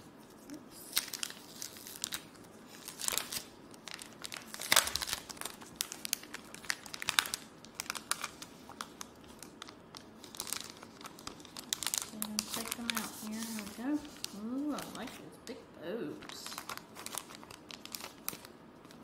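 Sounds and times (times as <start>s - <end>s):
plastic sleeve crinkling: 0.3s - 15.3s, 16.1s - 19.0s.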